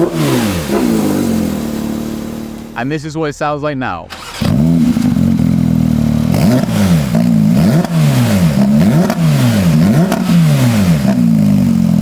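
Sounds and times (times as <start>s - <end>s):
car engine revving: 0.0s - 2.9s, 4.1s - 12.0s.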